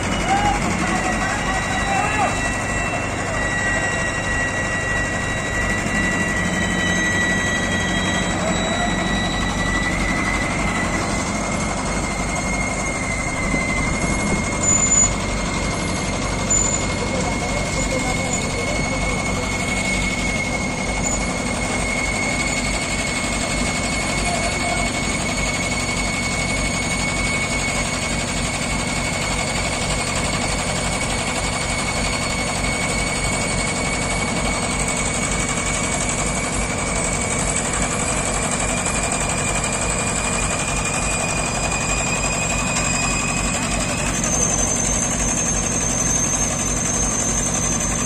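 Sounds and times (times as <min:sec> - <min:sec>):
diesel engines running: 0:00.0 - 0:48.0
high whine: 0:00.0 - 0:48.0.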